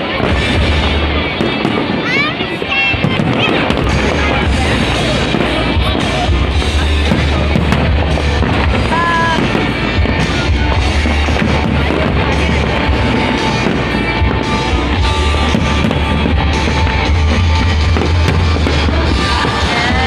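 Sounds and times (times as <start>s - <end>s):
fireworks bangs: 0.0s - 20.0s
loud music playing: 0.0s - 20.0s.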